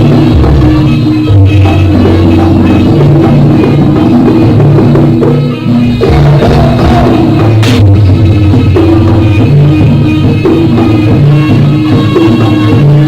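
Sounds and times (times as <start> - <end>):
drums and percussion: 0.0 - 13.0.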